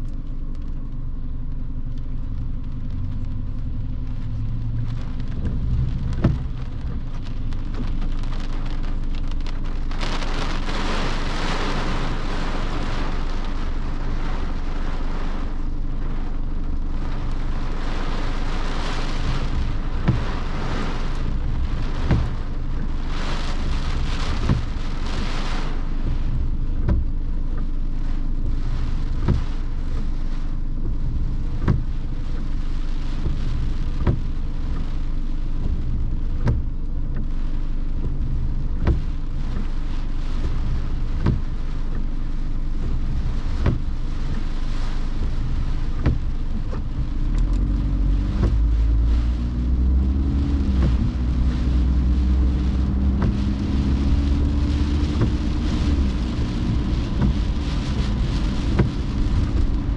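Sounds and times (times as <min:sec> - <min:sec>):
car engine: 0:00.0 - 0:59.9
rain: 0:00.0 - 0:59.9
road noise rumble: 0:00.0 - 0:59.9.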